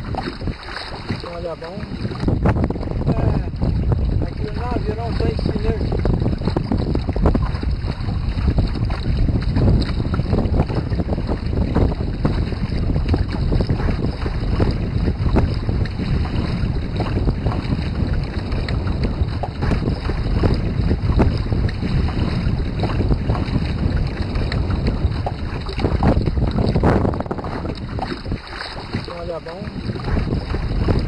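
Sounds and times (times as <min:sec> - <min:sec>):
water slapping against hull: 0:00.0 - 0:31.0
wind buffeting microphone: 0:00.0 - 0:31.0.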